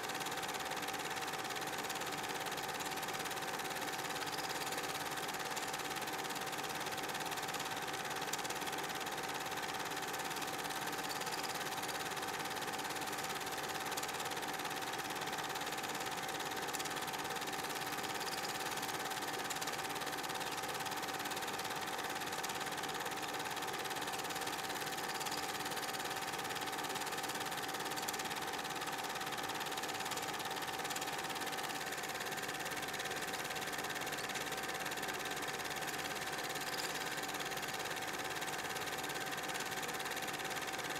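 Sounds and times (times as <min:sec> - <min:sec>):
film projector whirring: 0:00.0 - 0:40.9.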